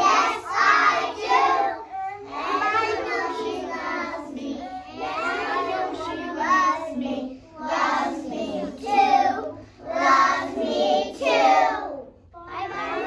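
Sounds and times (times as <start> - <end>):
children singing together: 0.0 - 13.0.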